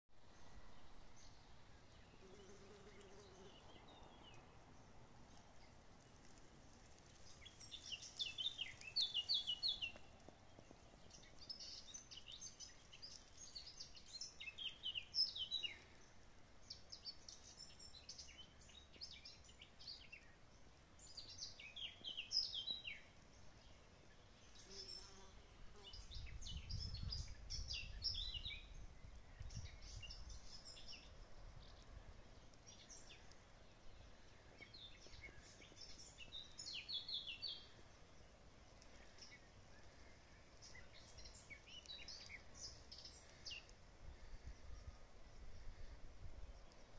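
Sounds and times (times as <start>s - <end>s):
songbirds singing: 0.2s - 46.9s.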